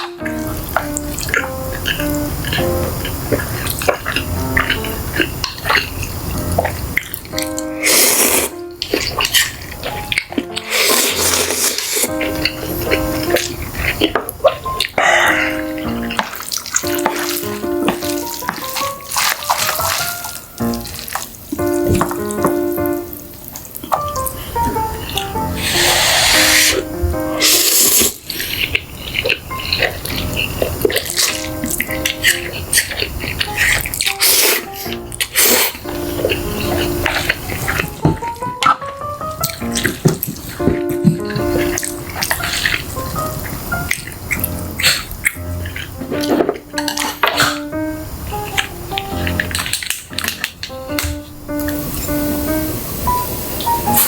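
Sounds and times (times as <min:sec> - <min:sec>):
wet chewing and slurping: 0:00.0 - 0:52.3
background music simple melody: 0:00.0 - 0:54.0.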